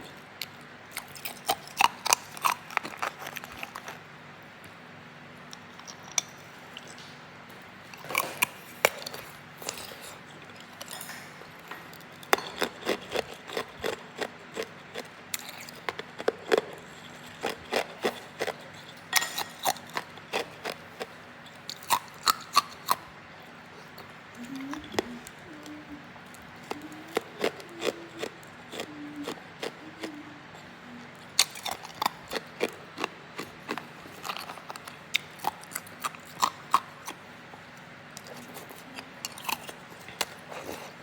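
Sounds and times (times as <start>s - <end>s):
ice being chewed: 0.1s - 4.8s, 5.4s - 7.1s, 7.8s - 23.0s, 23.8s - 41.0s.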